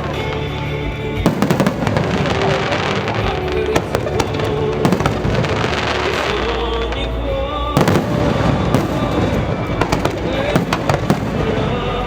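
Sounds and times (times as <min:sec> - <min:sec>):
fireworks bursting and crackling: 0:00.0 - 0:12.0
music playing: 0:00.0 - 0:12.0.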